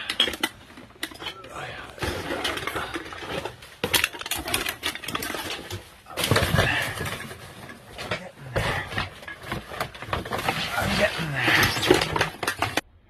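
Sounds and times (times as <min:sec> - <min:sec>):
rustling: 0:00.1 - 0:12.8.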